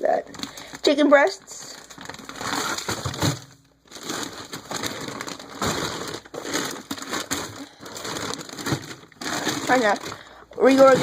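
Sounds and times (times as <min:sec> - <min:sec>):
plastic packages crinkling: 0:00.0 - 0:11.0.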